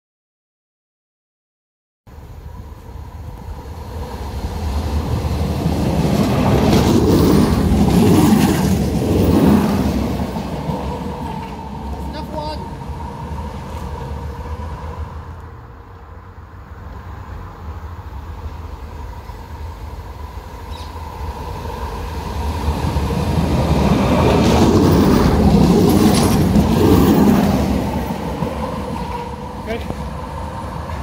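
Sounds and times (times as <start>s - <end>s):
tram running on rails: 2.1s - 31.0s.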